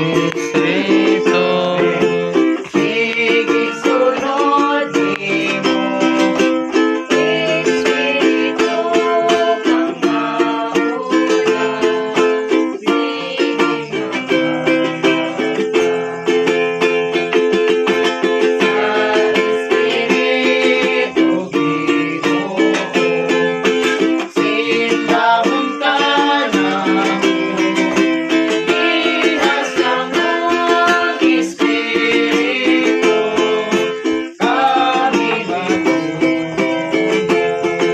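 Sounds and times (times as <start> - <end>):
plucked string instrument strumming: 0.0 - 37.9.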